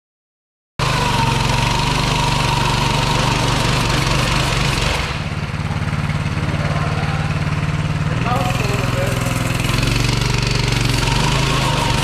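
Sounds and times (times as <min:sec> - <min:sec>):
small motorbike engine running: 0:00.8 - 0:12.0
tire squealing and hissing: 0:00.8 - 0:12.0.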